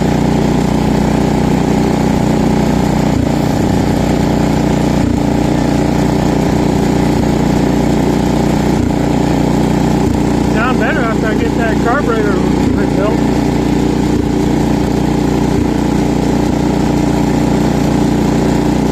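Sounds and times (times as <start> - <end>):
garden tractor engine running: 0.0 - 18.9.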